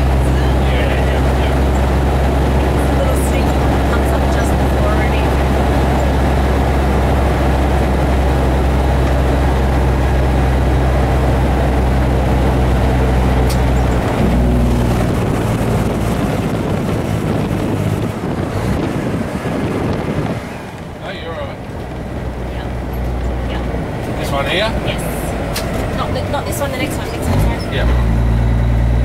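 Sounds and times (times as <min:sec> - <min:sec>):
diesel truck engine drone: 0:00.0 - 0:29.0
road and wind noise: 0:00.0 - 0:29.0.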